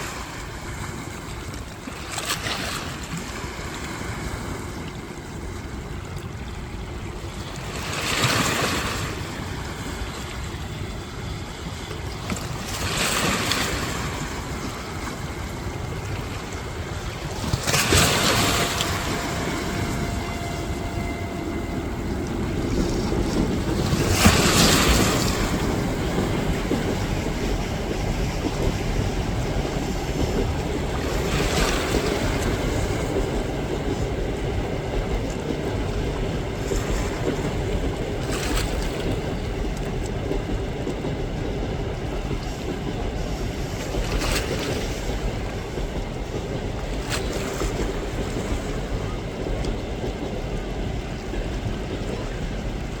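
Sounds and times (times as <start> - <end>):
surf: 0.0 - 53.0
train rumbling past: 0.0 - 53.0
wind: 0.0 - 53.0.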